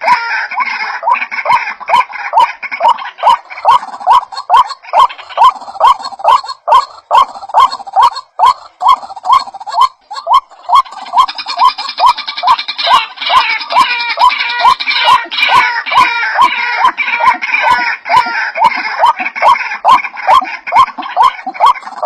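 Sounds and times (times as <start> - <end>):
waterhen calling: 0.0 - 22.0.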